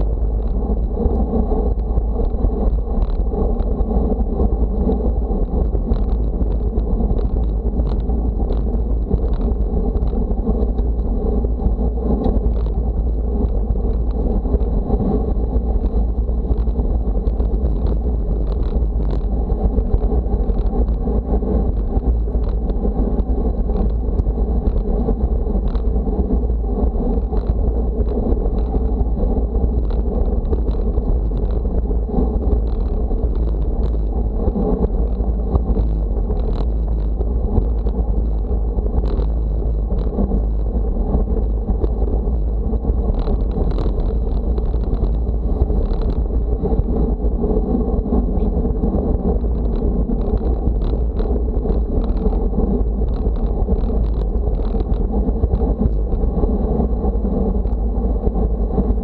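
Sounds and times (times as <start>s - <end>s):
road tyre noise: 0.0s - 59.0s
wind buffeting microphone: 0.0s - 59.0s.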